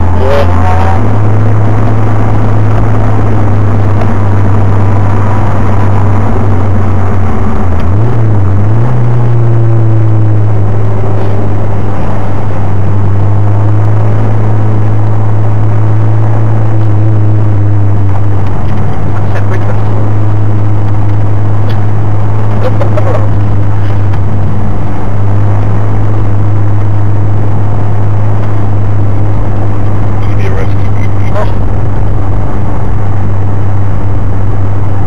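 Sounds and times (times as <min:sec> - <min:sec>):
car engine running at speed: 0:00.0 - 0:35.0.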